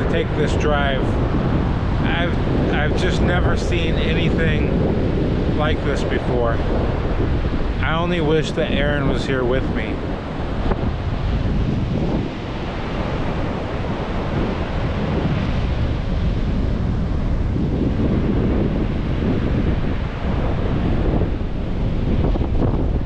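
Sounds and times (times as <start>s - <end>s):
ocean waves breaking on beach: 0.0s - 23.0s
wind rumbling on microphone: 0.0s - 23.0s.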